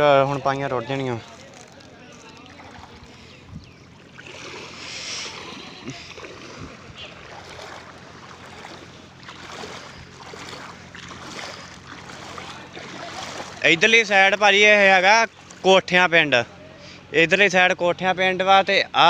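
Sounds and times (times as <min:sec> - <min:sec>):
small water splashes: 0:00.0 - 0:15.9
floodwater rushing: 0:00.0 - 0:17.2.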